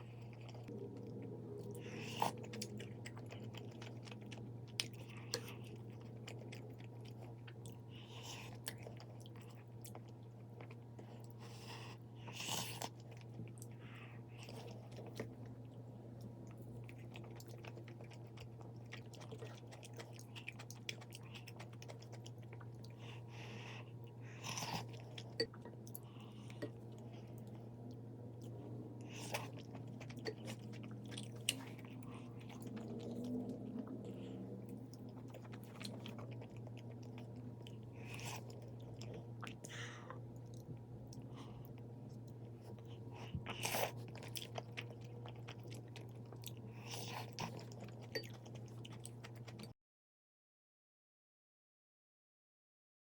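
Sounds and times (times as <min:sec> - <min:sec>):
person chewing and crunching food: 0:00.0 - 0:49.7
steady low hum: 0:00.0 - 0:49.7.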